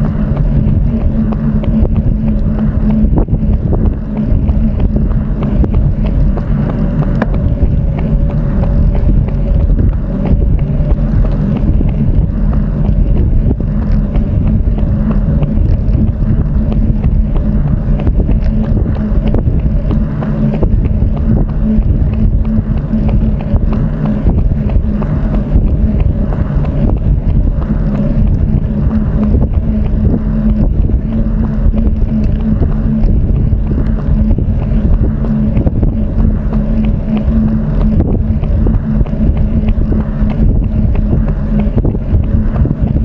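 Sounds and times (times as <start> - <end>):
low hum: 0.0 - 43.0
wind noise on microphone: 0.0 - 43.0.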